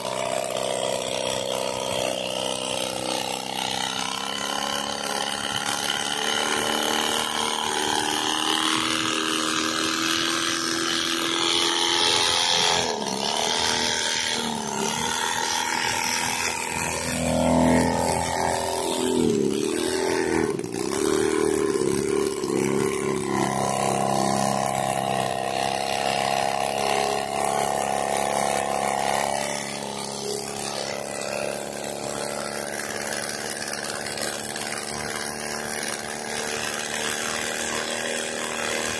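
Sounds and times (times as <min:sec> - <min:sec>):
small aircraft engine running: 0:00.0 - 0:38.9.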